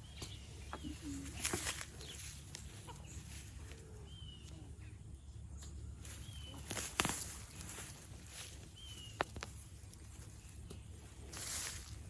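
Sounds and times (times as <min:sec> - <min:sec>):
rustle: 0:00.0 - 0:04.9, 0:05.5 - 0:12.0
hens clucking: 0:00.0 - 0:11.3
small birds chirping: 0:00.0 - 0:12.0.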